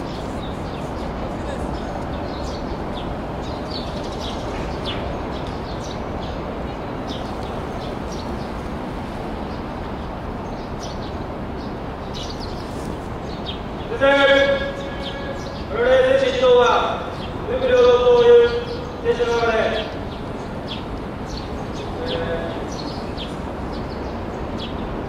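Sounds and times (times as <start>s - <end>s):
outdoor background noise: 0.0s - 25.0s
small birds chirping: 0.0s - 25.0s.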